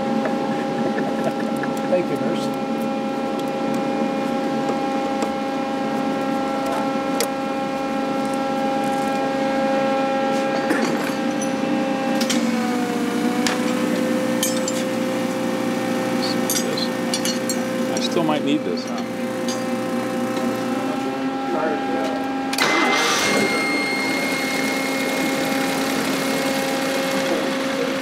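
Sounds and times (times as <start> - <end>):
engine humming with whine: 0.0 - 28.0.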